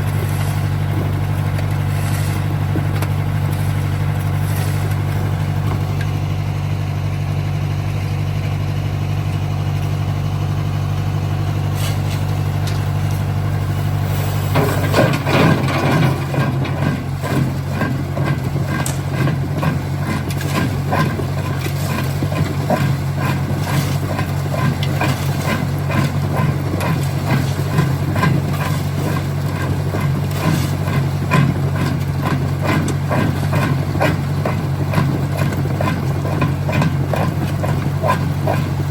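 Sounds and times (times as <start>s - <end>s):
rocks knocking and cracking: 0.0s - 6.2s, 11.8s - 38.9s
engine hum: 0.0s - 38.9s.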